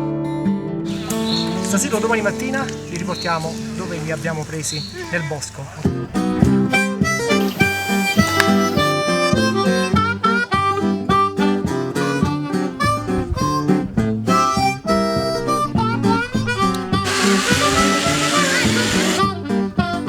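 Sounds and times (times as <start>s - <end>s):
acoustic guitar accompaniment: 0.0s - 20.0s
blues harmonica: 0.9s - 20.0s.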